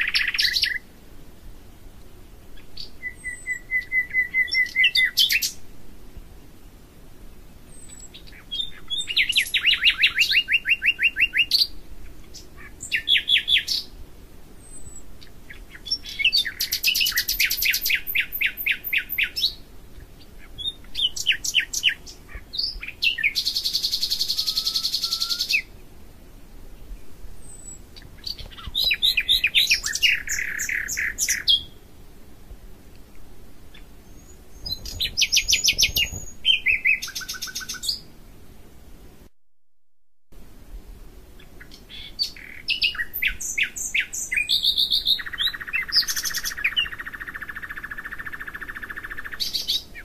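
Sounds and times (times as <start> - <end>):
songbird singing: 0.0 - 38.4, 41.2 - 50.0.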